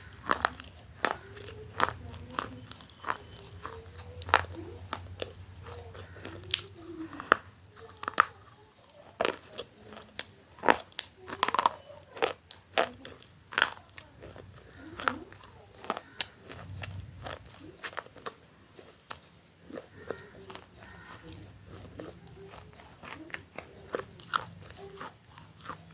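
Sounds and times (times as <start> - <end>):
crisp food being chewed: 0.0 - 25.9.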